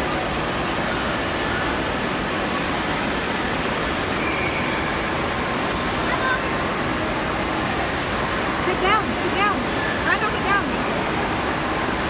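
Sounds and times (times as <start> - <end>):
waves breaking and churning: 0.0 - 12.0.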